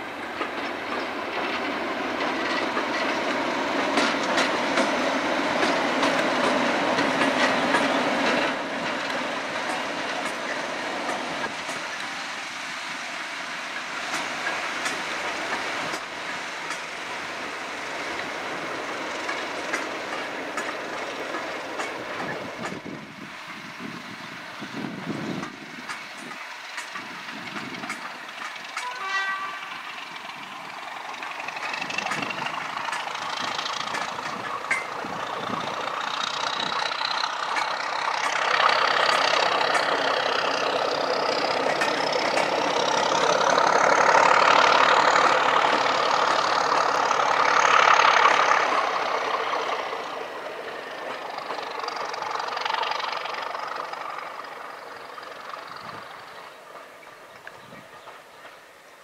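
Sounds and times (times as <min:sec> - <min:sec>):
diesel locomotive engine: 0:00.0 - 0:59.0.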